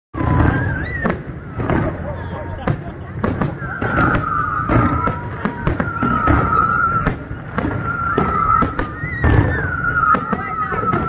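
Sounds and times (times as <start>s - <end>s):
fireworks bangs: 0.2s - 11.0s.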